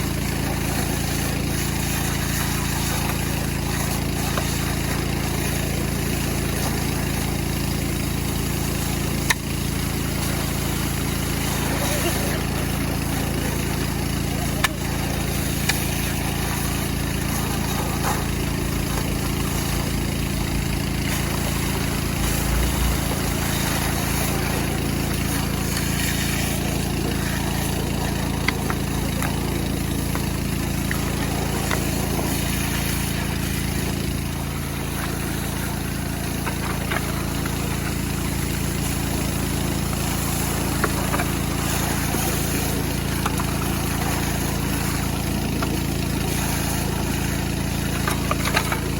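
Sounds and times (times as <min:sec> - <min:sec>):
small petrol engine running: 0:00.0 - 0:48.9.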